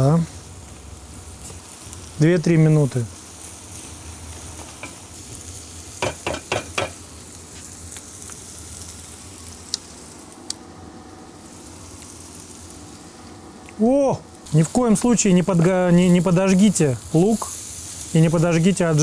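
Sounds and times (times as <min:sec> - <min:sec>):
onions sizzling in a pan: 0:00.0 - 0:19.0.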